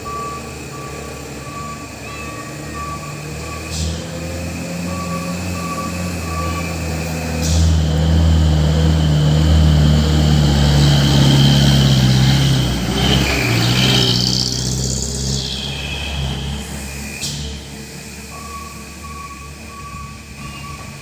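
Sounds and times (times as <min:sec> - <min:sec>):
high whine: 0:00.0 - 0:18.9
reversing alarm beeping: 0:00.0 - 0:21.0
truck diesel engine running: 0:00.0 - 0:21.0.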